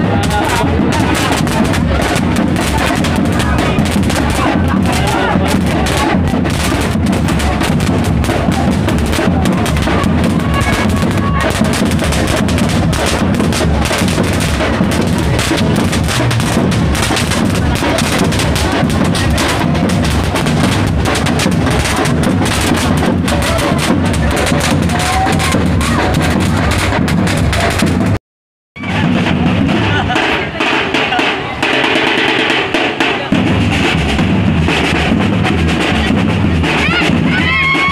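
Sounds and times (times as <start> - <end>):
street drum band: 0.0 - 28.2, 28.8 - 37.9.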